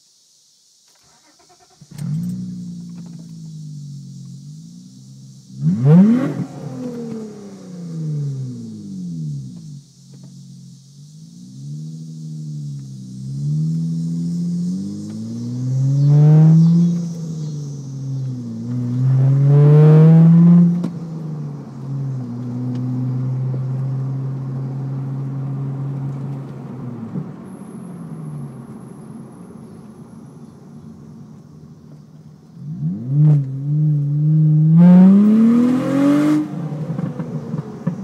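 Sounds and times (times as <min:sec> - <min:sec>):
car engine accelerating: 0:01.0 - 0:38.0.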